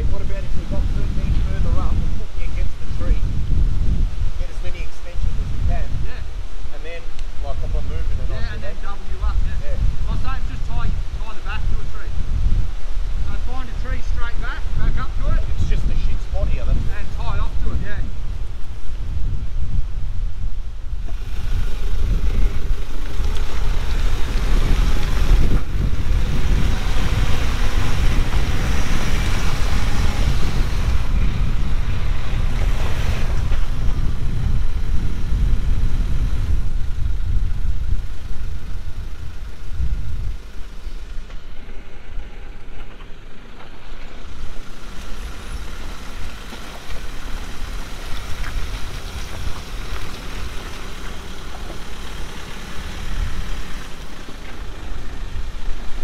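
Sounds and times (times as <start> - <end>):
vehicle engine and tyres rumbling: 0.0 - 56.0
wind buffeting microphone: 0.0 - 56.0.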